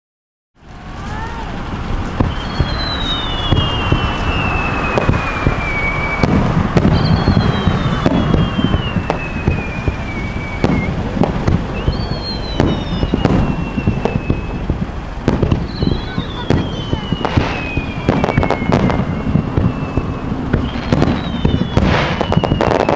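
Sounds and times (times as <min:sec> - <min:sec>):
fireworks bursting: 0:00.6 - 0:22.9
low rumble: 0:00.6 - 0:22.9
descending high whistle: 0:02.2 - 0:11.1, 0:11.7 - 0:14.8, 0:15.5 - 0:22.9.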